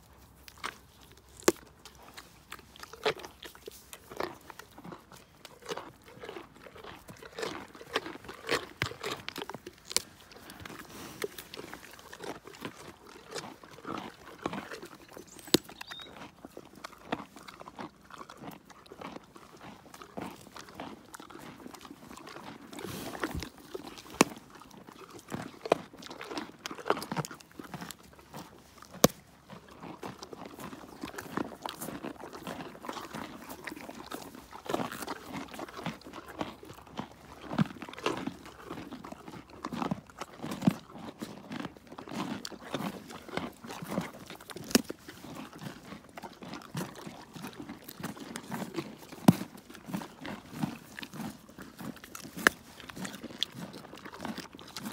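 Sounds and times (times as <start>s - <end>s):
animal crunching carrots: 0.0s - 54.9s.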